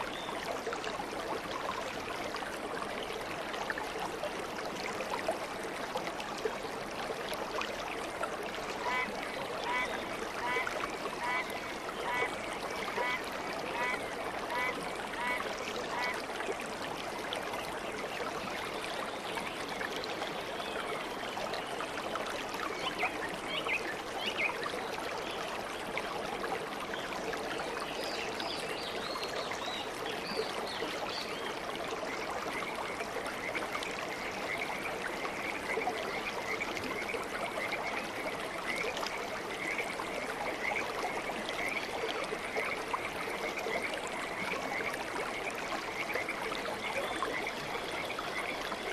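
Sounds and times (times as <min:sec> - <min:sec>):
aquarium water trickling and bubbling: 0:00.0 - 0:48.9.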